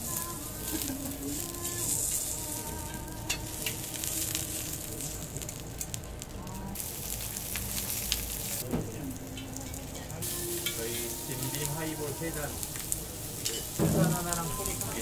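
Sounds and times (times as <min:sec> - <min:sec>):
fat crackling and popping: 0:00.0 - 0:15.0
meat sizzling on a grill: 0:00.0 - 0:15.0.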